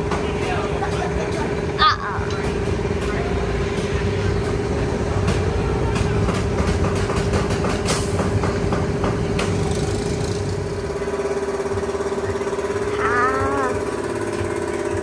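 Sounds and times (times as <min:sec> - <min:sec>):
steady machine hum: 0:00.0 - 0:07.6, 0:08.2 - 0:15.0.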